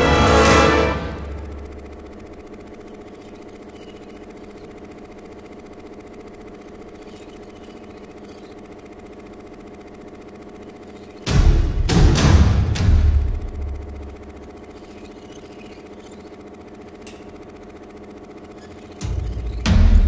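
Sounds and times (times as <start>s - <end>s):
steady fluttering drone: 0.0s - 20.0s.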